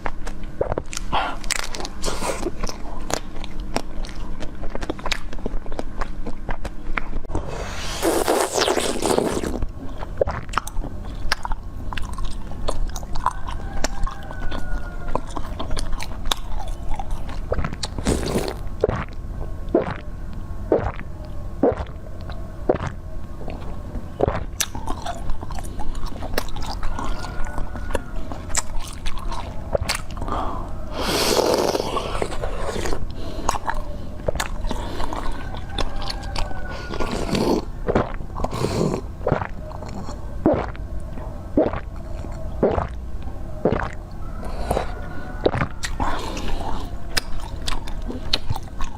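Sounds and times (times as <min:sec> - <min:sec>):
biting and chewing crunches: 0:00.0 - 0:48.9.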